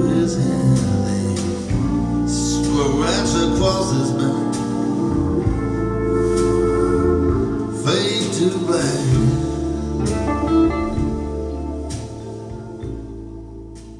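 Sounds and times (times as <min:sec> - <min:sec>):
instrumental song with guitar: 0:00.0 - 0:13.9.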